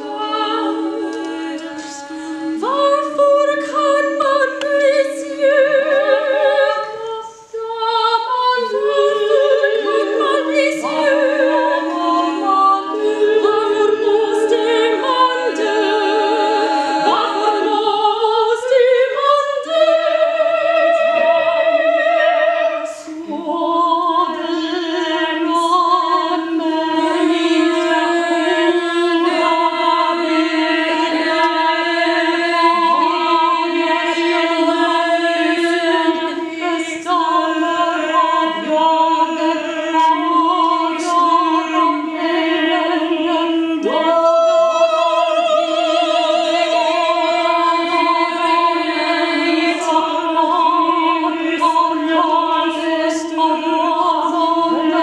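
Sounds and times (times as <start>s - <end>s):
vocal ensemble singing harmony: 0.0s - 55.0s.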